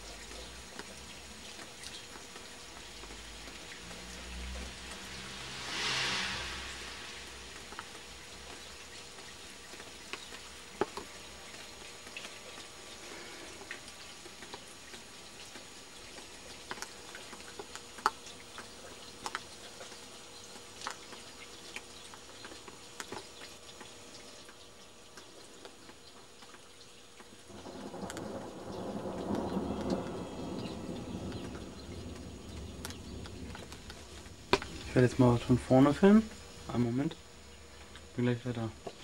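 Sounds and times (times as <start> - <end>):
faint steady hiss: 0.0 - 39.0
raindrops tapping: 0.0 - 39.0.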